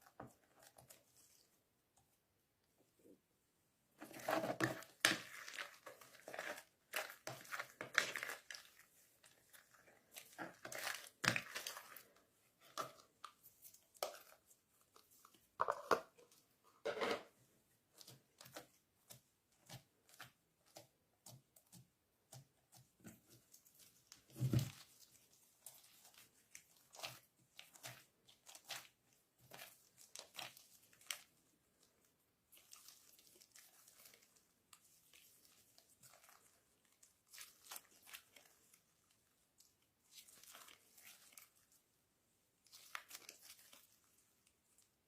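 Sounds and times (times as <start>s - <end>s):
slime squishing: 4.0s - 16.6s, 17.7s - 45.0s.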